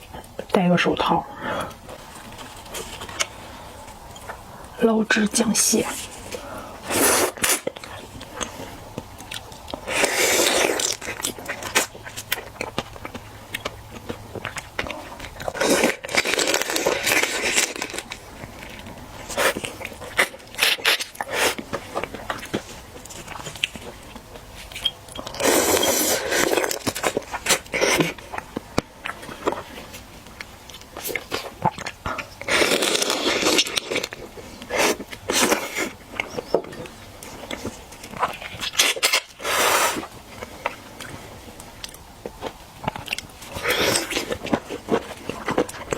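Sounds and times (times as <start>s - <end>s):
crunching and wet chewing: 1.6s - 4.8s, 5.8s - 45.9s.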